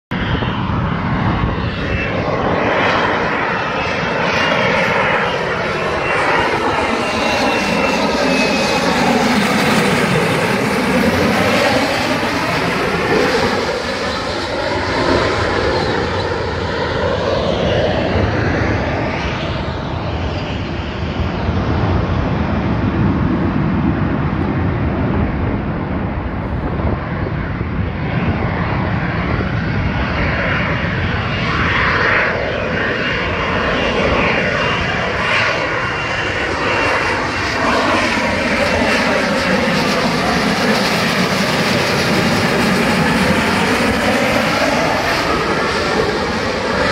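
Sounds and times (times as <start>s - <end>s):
jet flying past overhead: 0.1s - 46.9s.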